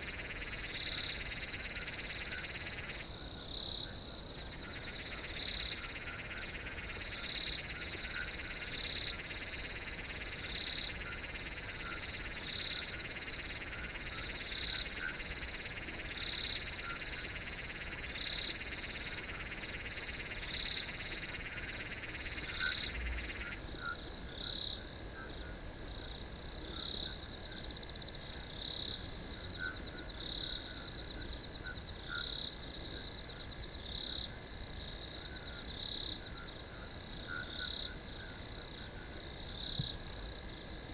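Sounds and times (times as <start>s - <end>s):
louder cricket chirp: 0.0s - 40.9s
lower cricket trill: 0.0s - 40.9s.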